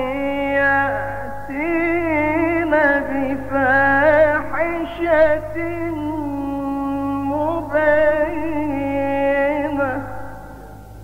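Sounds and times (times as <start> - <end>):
man chanting melodically: 0.0 - 10.9.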